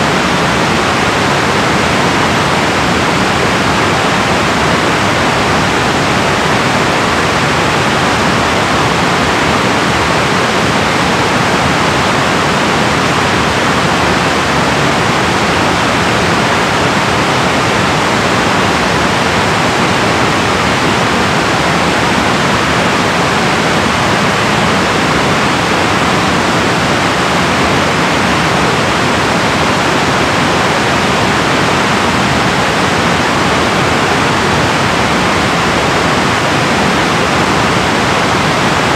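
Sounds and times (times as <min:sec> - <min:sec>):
water rushing through dam: 0:00.0 - 0:38.9.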